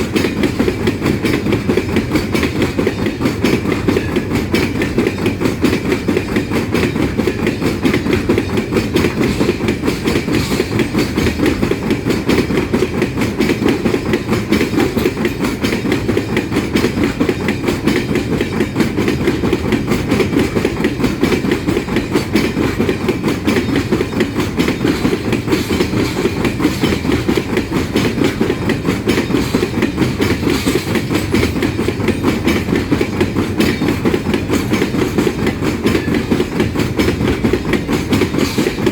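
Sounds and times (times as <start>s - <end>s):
train wagons rolling past: 0.0s - 38.9s
wheels clacking over rail joints: 0.0s - 38.9s.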